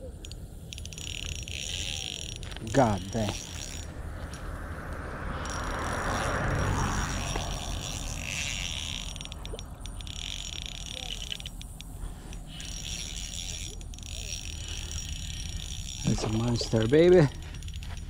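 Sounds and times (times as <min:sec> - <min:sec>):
fishing reel whirring: 0:00.0 - 0:18.0.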